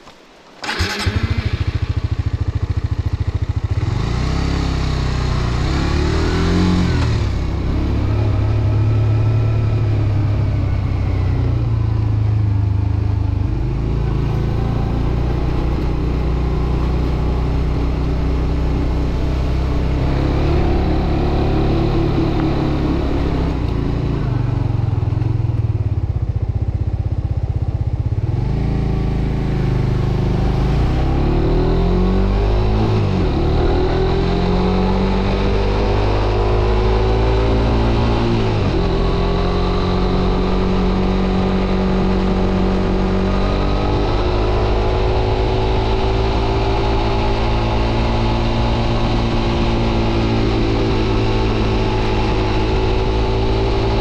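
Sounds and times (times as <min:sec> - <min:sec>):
motorcycle engine revving: 0:00.6 - 0:54.0.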